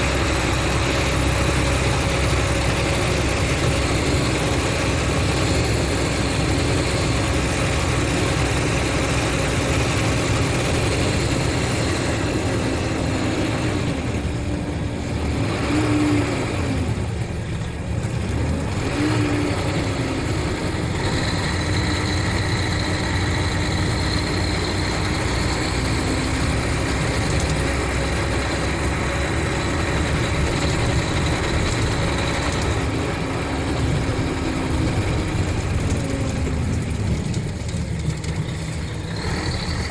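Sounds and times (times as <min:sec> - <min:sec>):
coach diesel engine running: 0:00.0 - 0:39.9.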